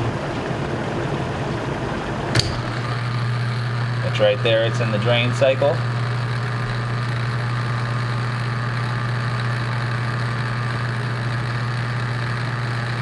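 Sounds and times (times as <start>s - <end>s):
dishwasher pump humming: 0.0s - 13.0s.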